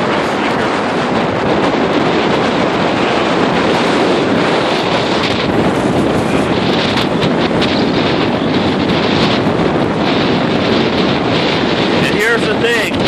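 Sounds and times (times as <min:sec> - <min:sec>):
strong wind buffeting microphone: 0:00.0 - 0:13.0
waves surging against pier: 0:00.0 - 0:13.0.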